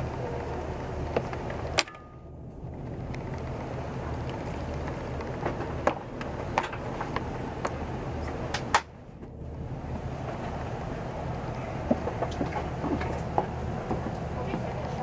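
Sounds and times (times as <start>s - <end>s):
aircraft cabin hum: 0.0s - 15.0s.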